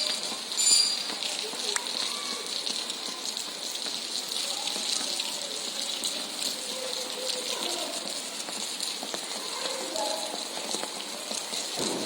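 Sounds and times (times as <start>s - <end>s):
steady hiss of water: 0.0s - 12.0s.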